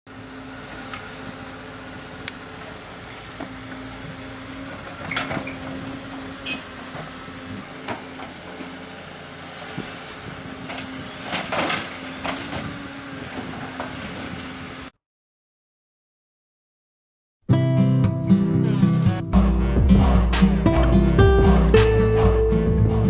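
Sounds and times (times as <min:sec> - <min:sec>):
excavator engine running: 0:00.1 - 0:14.9, 0:18.7 - 0:23.0.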